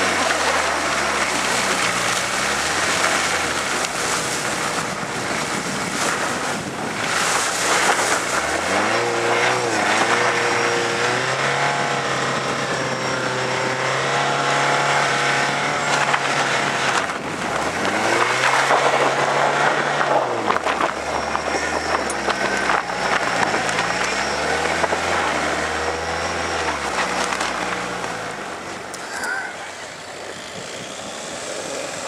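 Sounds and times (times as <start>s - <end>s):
diesel engine under hard throttle: 0.0s - 32.0s
tyre and road noise: 0.0s - 32.0s.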